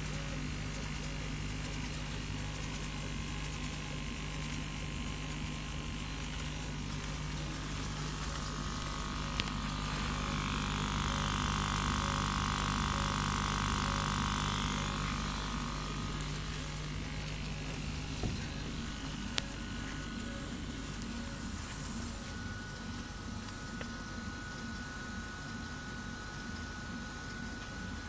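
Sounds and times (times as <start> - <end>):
high machine whine: 0.0 - 28.0
laser cutting machine hum: 0.0 - 28.0.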